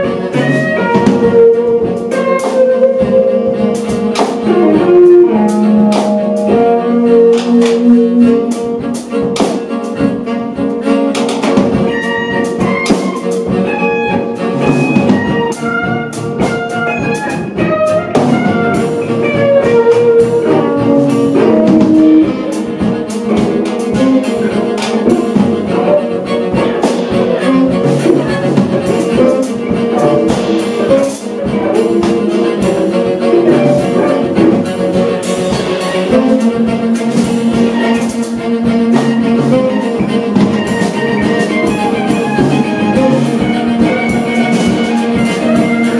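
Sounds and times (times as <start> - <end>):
bowed cello: 0.0 - 45.9
drum kit and cymbals: 0.0 - 45.9
saxophone: 0.0 - 45.9.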